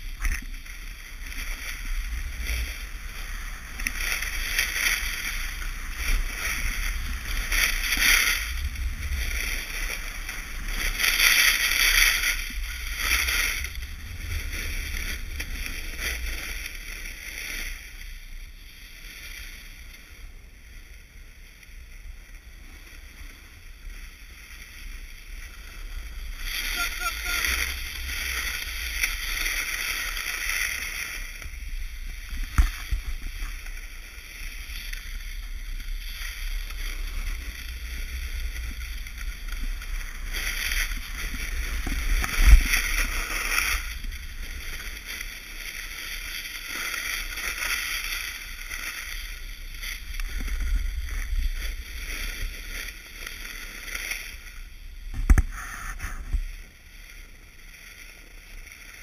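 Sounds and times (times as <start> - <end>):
snowboard scraping over snow: 0.0 - 59.0
wind rumbling on microphone: 0.0 - 59.0.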